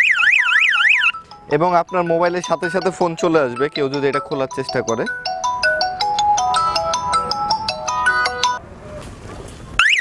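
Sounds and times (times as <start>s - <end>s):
mobile phone ringtone melody: 0.0s - 8.6s.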